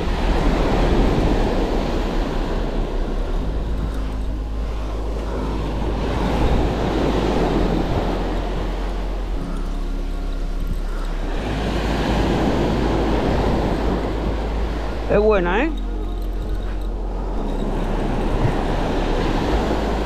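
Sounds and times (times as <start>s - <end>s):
surf breaking on a beach: 0.0s - 9.7s, 10.9s - 15.8s, 17.3s - 20.0s
wind rumble on microphone: 0.0s - 20.0s.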